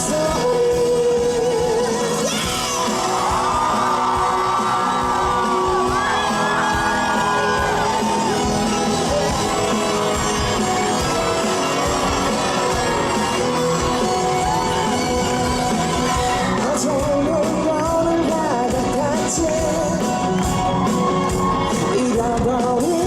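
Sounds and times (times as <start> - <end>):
live band music: 0.0 - 23.0
audience shouting and whooping: 1.3 - 23.0.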